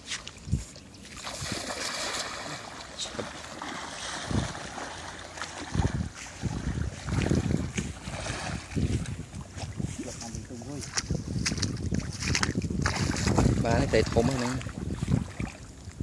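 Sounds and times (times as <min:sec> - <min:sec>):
wading through sloshing water: 0:00.0 - 0:16.0.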